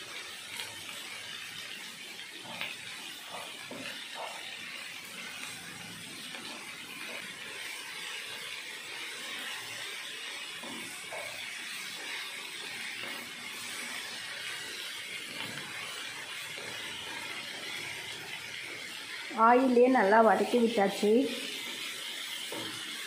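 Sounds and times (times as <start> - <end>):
okra sizzling in hot oil: 0.0 - 23.0.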